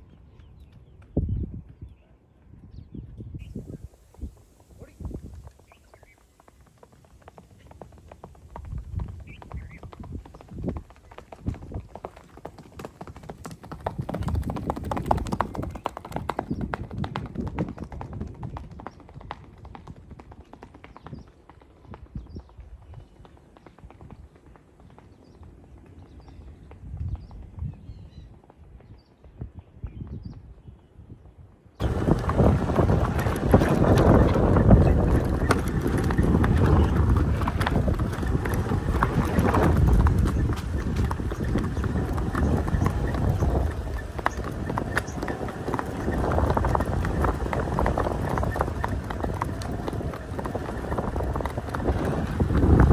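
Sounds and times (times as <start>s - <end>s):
wind buffeting microphone: 0.0s - 52.9s
horse hoofbeats on dirt: 3.5s - 30.4s, 31.8s - 52.9s.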